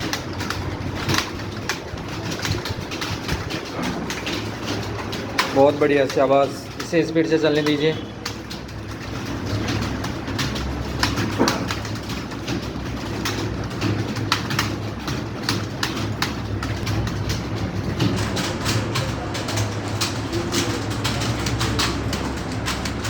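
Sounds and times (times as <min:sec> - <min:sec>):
many keyboards clattering: 0:00.0 - 0:23.0.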